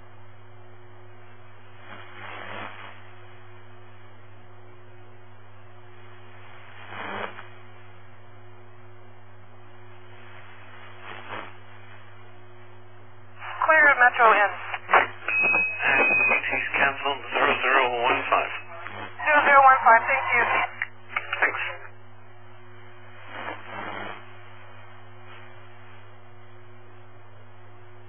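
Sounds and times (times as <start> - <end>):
low hum: 0.0 - 28.0
radio static hiss: 1.0 - 27.1
static bursts: 1.2 - 4.2, 5.8 - 8.2, 8.8 - 26.2.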